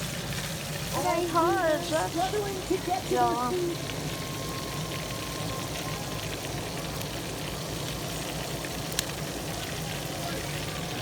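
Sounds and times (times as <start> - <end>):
fish sizzling on a grill: 0.0 - 11.0.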